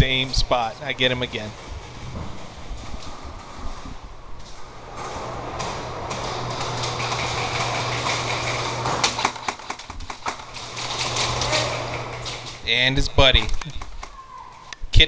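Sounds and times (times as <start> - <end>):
steady hiss and low hum: 0.0 - 14.1.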